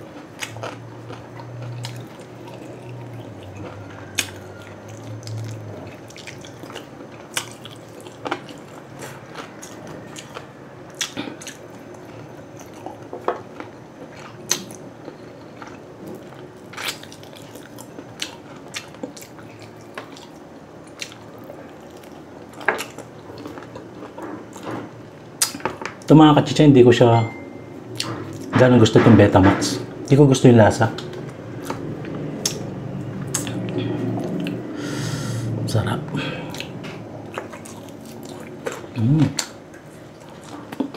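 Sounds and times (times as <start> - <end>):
person chewing meat: 0.0 - 26.1, 31.0 - 35.3, 36.3 - 40.9.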